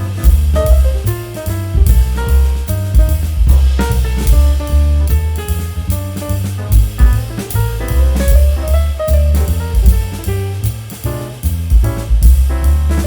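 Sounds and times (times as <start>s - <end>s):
jazz instrumental music: 0.0s - 13.0s.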